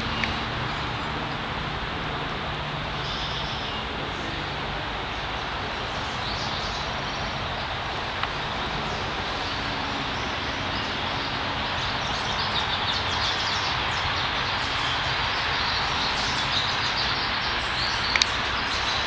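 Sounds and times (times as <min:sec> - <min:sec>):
small birds chirping: 0:00.0 - 0:01.6, 0:02.4 - 0:19.0
steady rushing noise: 0:00.0 - 0:19.0.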